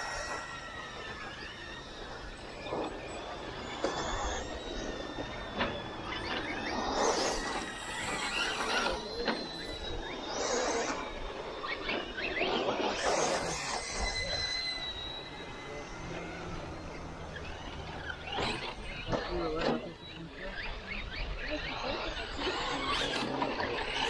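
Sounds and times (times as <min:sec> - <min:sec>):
electric motor whine of rc cars: 0:00.0 - 0:24.0
thin steady high whine: 0:00.0 - 0:24.0.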